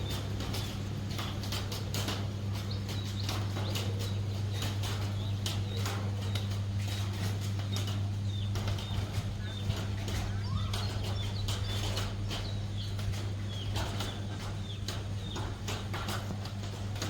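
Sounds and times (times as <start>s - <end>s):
chickens chirping: 0.0s - 16.8s
steady low hum: 0.0s - 17.0s.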